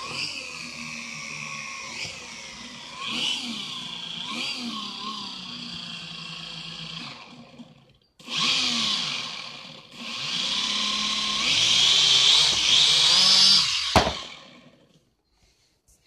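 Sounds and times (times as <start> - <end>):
drone motors whirring: 0.0 - 14.7.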